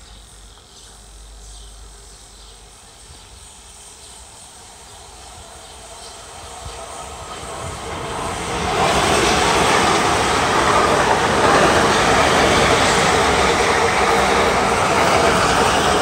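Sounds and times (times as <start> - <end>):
electric train passing at speed: 2.7 - 16.0.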